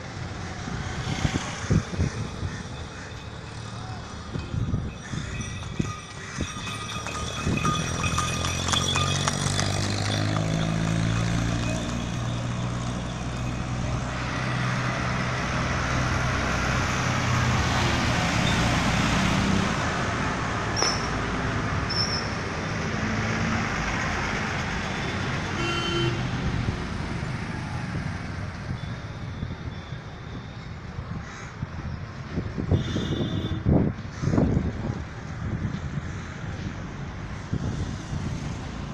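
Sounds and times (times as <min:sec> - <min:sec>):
cars and motorcycles: 0:00.0 - 0:38.9.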